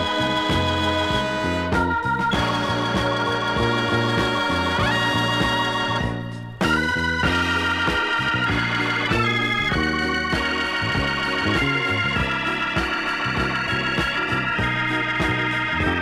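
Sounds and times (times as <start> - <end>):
drums: 0.0 - 16.0
electric bass line: 0.0 - 16.0
hammond organ chords and melody: 0.0 - 16.0.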